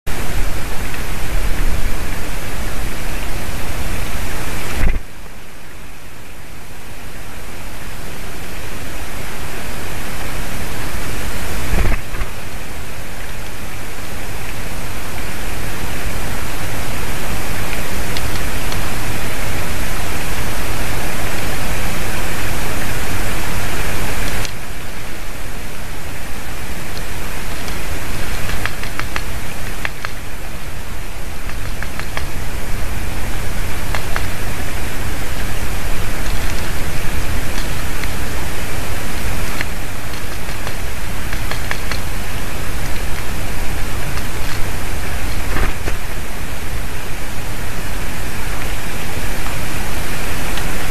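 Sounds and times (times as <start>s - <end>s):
wind buffeting microphone: 0.1s - 5.2s, 10.6s - 12.6s, 15.3s - 50.9s.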